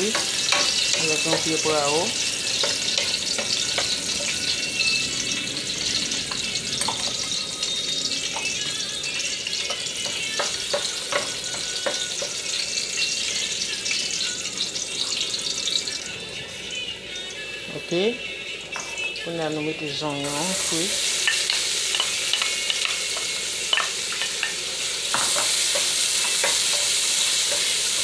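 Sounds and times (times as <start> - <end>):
onions sizzling in hot oil: 0.0 - 16.8, 17.7 - 28.0.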